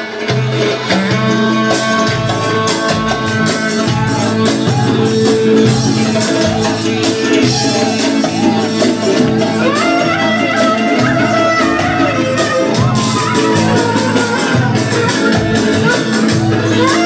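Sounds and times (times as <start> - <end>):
electronic keyboard dance music: 0.0 - 17.0.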